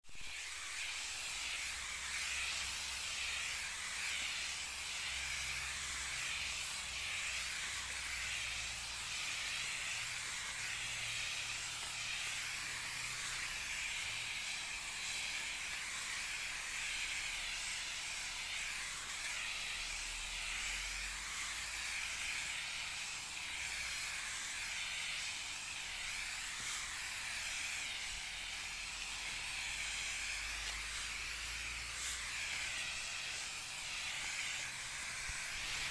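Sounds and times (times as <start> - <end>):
crop sprayer hissing: 0.0 - 35.9.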